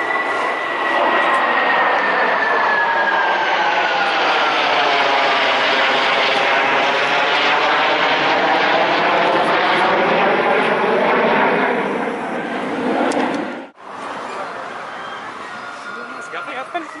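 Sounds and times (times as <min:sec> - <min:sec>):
military aircraft flying low: 0:00.0 - 0:17.0.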